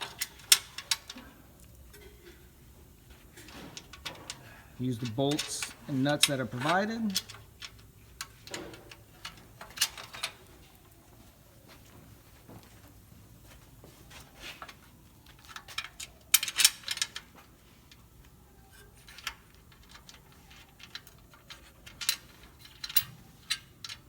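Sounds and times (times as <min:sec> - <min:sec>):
small metallic clicks and clinks: 0:00.0 - 0:02.5, 0:03.3 - 0:10.9, 0:14.6 - 0:24.0.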